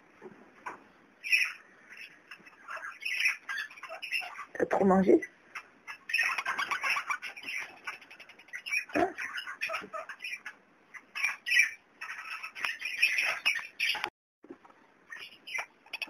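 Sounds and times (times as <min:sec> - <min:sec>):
parakeets chirping and chattering: 0:00.6 - 0:14.1, 0:15.0 - 0:16.0.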